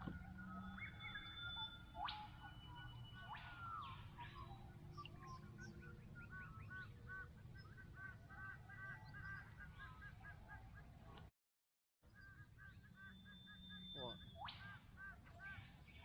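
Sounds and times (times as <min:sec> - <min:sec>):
wild birds calling: 0:00.0 - 0:11.2, 0:12.1 - 0:16.0.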